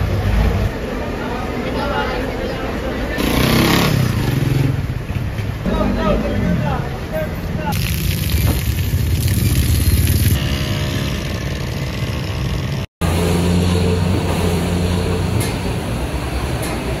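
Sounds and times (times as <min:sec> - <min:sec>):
vehicle engines in traffic: 0:00.0 - 0:17.0.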